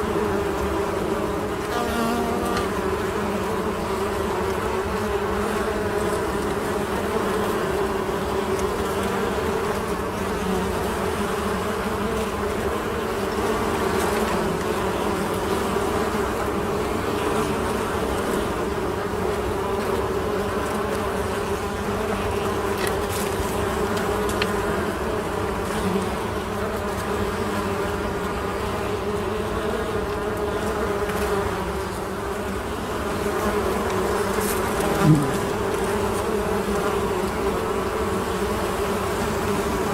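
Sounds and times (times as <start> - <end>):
honey bees buzzing: 0.0 - 39.9.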